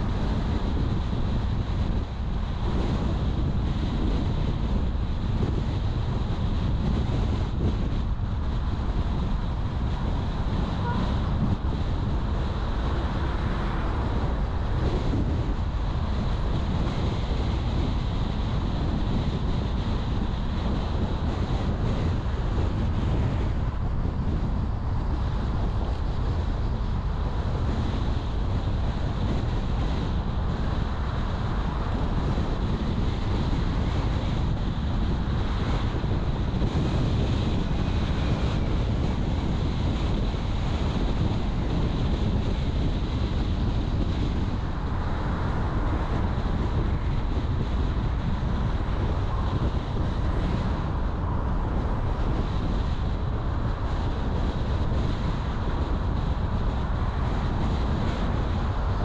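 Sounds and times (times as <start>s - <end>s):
car tyre and wind noise: 0.0s - 59.0s.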